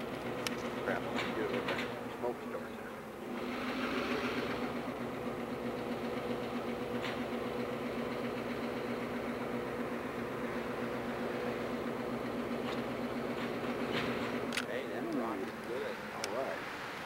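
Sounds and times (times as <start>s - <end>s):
locomotive diesel engine running: 0.0s - 17.0s.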